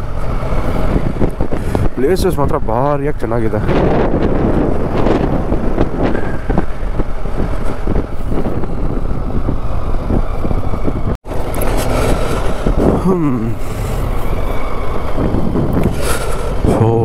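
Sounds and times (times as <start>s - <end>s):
motorcycle engine and road noise: 0.0s - 17.0s
wind rushing over microphone: 0.0s - 17.0s.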